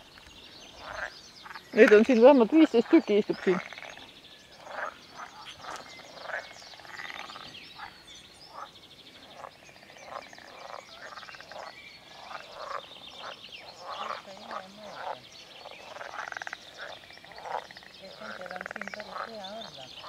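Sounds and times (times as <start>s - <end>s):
frogs croaking: 0.0s - 20.0s
fast rattling frog calls: 0.7s - 20.0s.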